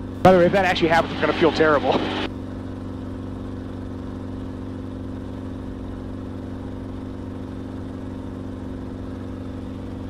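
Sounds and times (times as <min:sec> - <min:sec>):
helicopter engine and rotors droning: 0:00.0 - 0:10.0.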